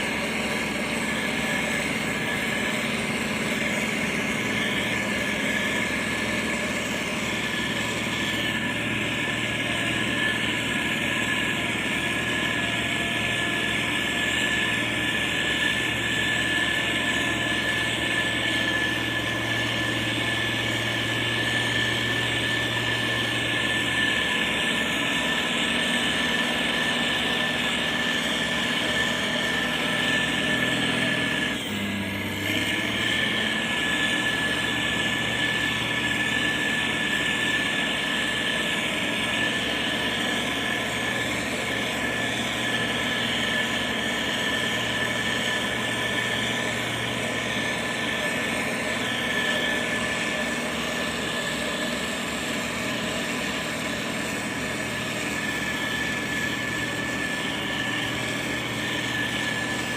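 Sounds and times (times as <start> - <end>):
diesel engines of heavy machinery: 0.0 - 59.9
high whine: 0.0 - 59.9.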